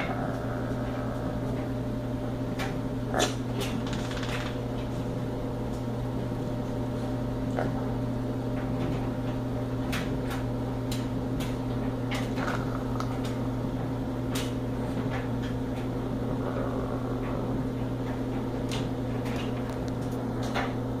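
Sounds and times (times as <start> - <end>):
appliance humming: 0.0 - 21.0.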